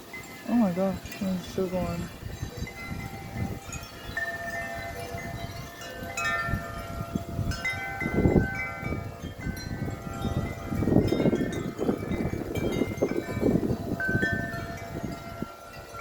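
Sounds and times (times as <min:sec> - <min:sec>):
wind chimes ringing: 0:00.0 - 0:16.0
wind gusts rumbling on microphone: 0:00.0 - 0:16.0.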